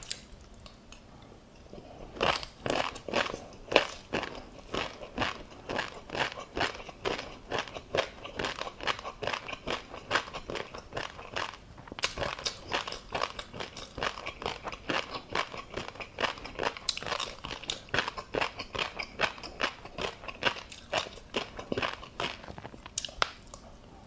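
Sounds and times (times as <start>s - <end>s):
chewing fish roe popping: 0.0s - 23.8s.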